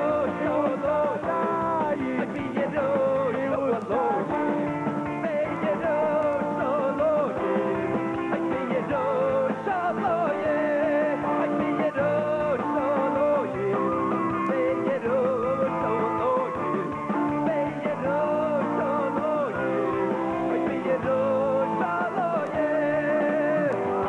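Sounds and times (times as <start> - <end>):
drums: 0.0 - 24.0
electric guitars: 0.0 - 24.0.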